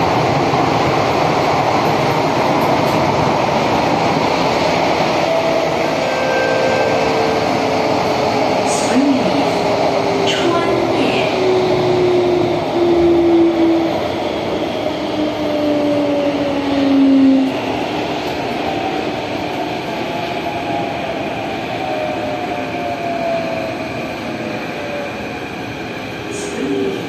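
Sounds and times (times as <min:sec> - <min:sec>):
train wheels rumbling in tunnel: 0:00.0 - 0:27.0.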